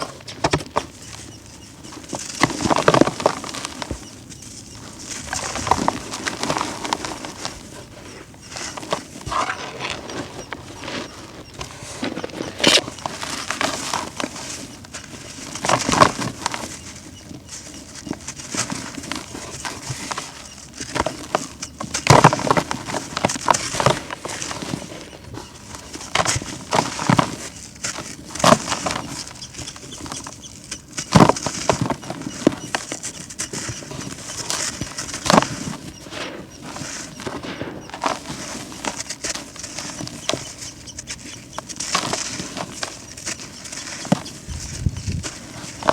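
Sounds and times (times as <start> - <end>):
dry earth crushed and crumbling: 0.0 - 45.9.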